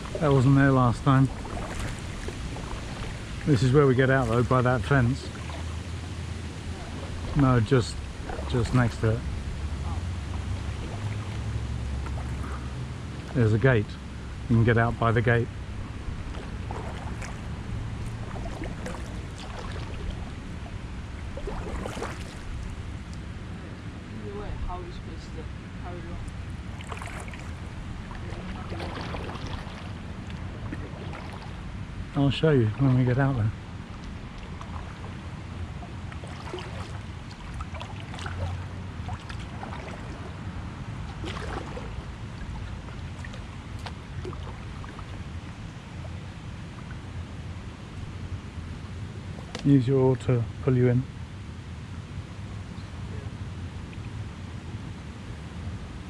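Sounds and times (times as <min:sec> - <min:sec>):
kayak paddle splashing water: 0:00.0 - 0:24.1, 0:26.0 - 0:48.3
steady low rumble: 0:00.0 - 0:56.0.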